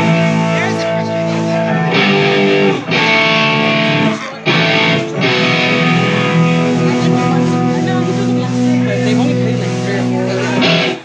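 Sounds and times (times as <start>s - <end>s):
electric guitar chords: 0.0s - 11.0s
live band playing: 0.0s - 11.0s.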